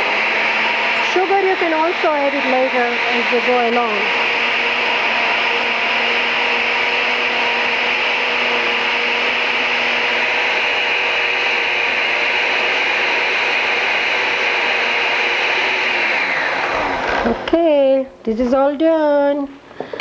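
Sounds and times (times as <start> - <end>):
blender whirring: 0.0 - 18.0.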